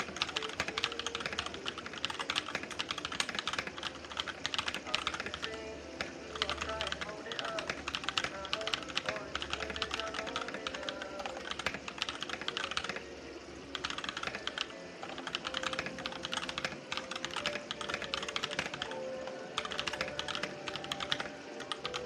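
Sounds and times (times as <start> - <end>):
mechanical keyboard typing: 0.0 - 13.1, 13.7 - 22.0
background music: 0.0 - 22.0.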